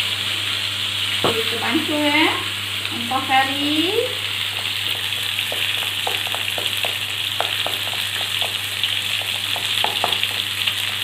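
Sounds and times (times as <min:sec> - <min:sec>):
paste sizzling in hot oil: 0:01.1 - 0:11.0.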